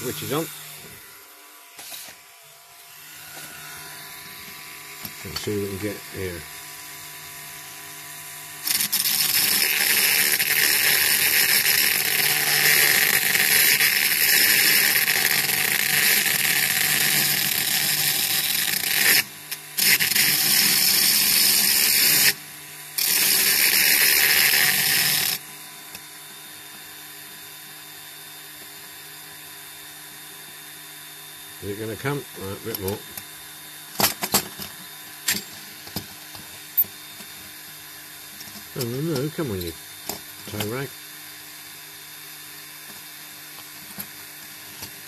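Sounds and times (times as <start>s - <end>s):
rotary tool grinding metal: 0.0s - 26.0s, 31.6s - 45.0s.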